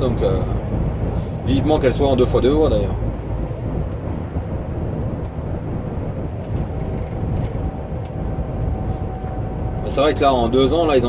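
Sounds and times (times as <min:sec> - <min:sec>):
truck engine drone: 0:00.0 - 0:11.0
tyre and road rumble: 0:00.0 - 0:11.0.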